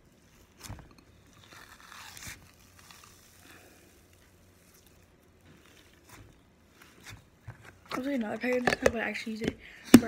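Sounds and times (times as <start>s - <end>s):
slime squishing: 0.0s - 10.0s.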